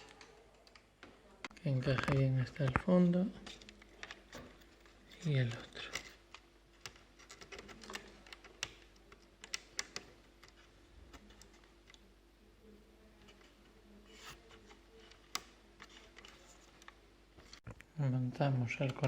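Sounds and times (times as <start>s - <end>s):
plastic parts clicking and tapping: 0.0s - 12.0s, 13.2s - 17.8s.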